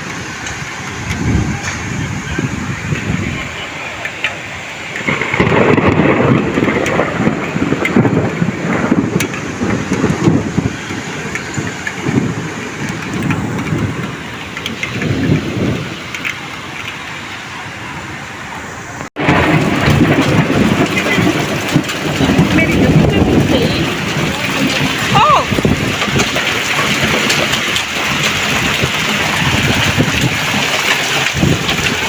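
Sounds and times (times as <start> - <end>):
heavy rain falling: 0.0 - 32.0
thunder rumbling: 0.0 - 32.0.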